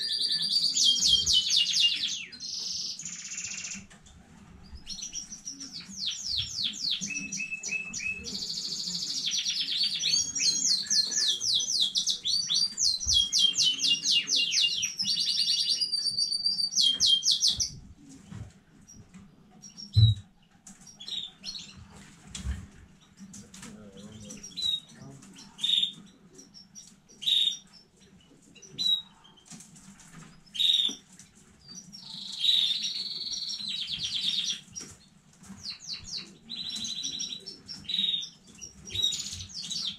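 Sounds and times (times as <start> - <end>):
canary chirps: 0.0 - 4.0, 4.6 - 39.9
canary trilling: 0.0 - 4.0, 4.8 - 17.8, 24.1 - 39.9.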